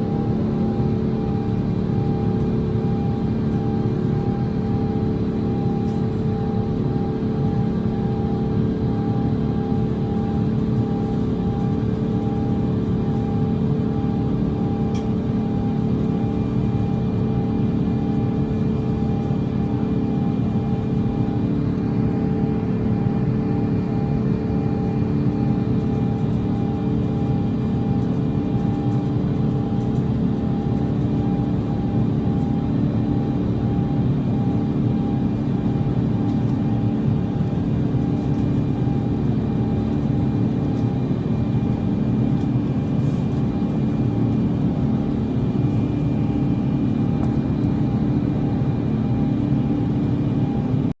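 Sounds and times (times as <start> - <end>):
airliner cabin drone: 0.0 - 51.0.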